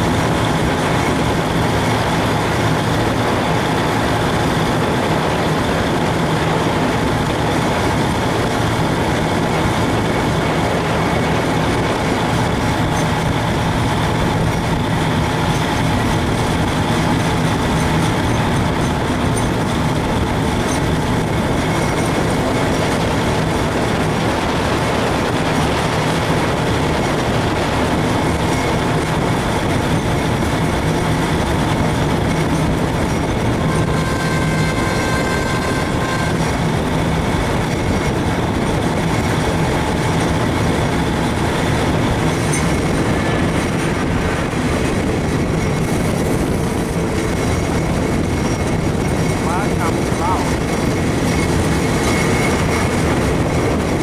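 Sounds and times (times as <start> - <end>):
low hum: 0.0 - 54.0
vehicle running noise: 0.0 - 54.0.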